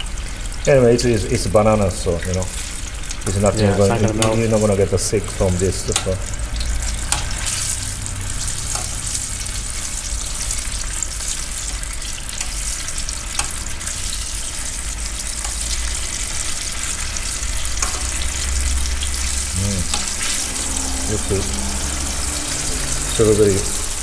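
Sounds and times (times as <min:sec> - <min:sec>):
food deep-frying in oil: 0:00.0 - 0:24.0.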